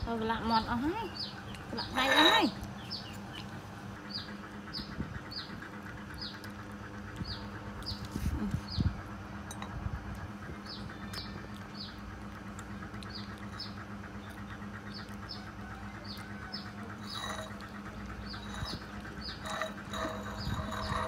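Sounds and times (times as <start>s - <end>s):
steady low hum: 0.0s - 21.0s
small bird chirping: 0.5s - 9.0s, 10.6s - 21.0s.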